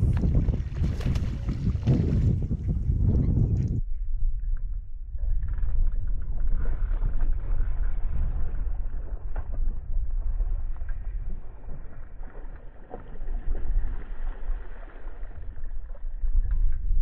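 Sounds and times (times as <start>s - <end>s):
water sloshing and splashing: 0.0s - 2.8s, 5.4s - 16.8s
wind rumbling on microphone: 0.0s - 17.0s.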